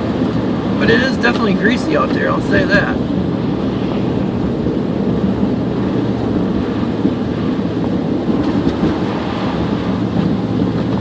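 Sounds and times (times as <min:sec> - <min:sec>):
truck engine drone: 0:00.0 - 0:11.0
tyres rushing on slushy snow: 0:00.0 - 0:11.0.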